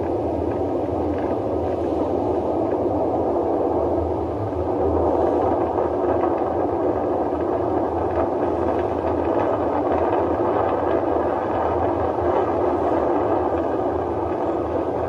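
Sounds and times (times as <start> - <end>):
rocket exhaust rumble: 0.0 - 15.0.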